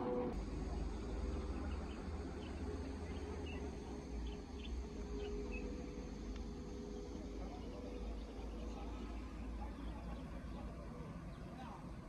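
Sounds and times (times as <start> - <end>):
faint steady hum: 0.0 - 12.0
steady low rumble: 0.0 - 12.0
faint high chirps: 0.3 - 11.8.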